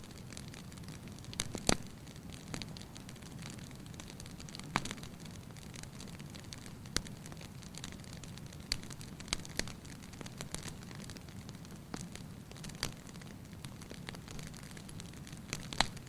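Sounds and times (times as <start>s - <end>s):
fireplace fire crackling: 0.0s - 16.0s
sharp pops of fire: 0.0s - 16.0s.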